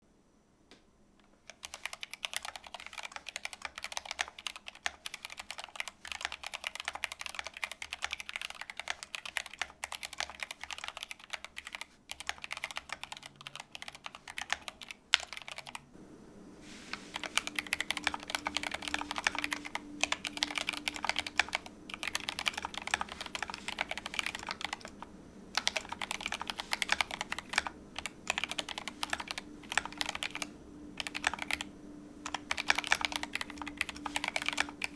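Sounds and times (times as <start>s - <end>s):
mechanical keyboard typing: 1.4s - 15.9s, 16.9s - 34.9s.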